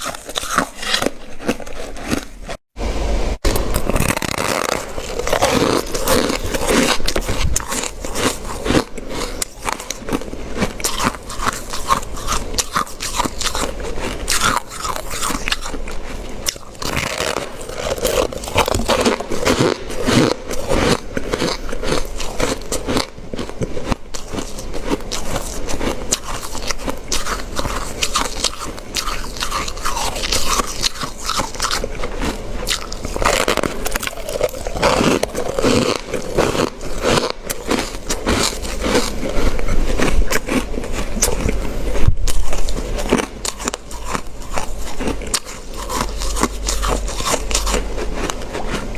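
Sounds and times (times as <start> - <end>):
person crunching ice: 0.0 - 2.6, 3.4 - 48.9.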